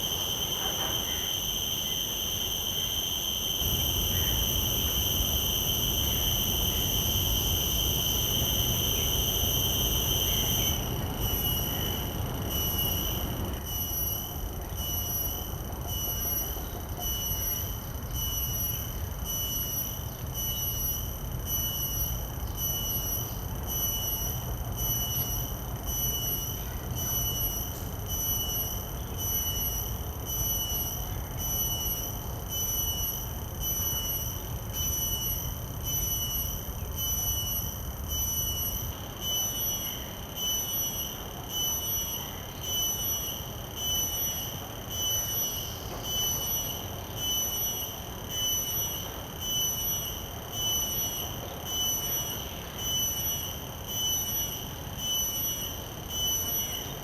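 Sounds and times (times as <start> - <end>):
cicada calling: 0.0 - 57.0.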